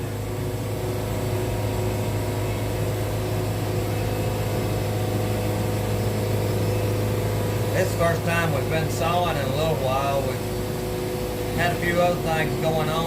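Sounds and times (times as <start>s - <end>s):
band sawmill engine humming: 0.0s - 13.0s.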